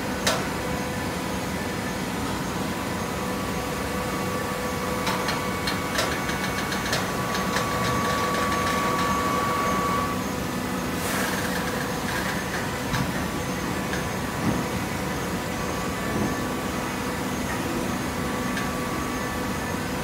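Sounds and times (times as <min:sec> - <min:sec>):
baling press motor and pump hum: 0:00.0 - 0:20.0
machine whine: 0:00.2 - 0:20.0.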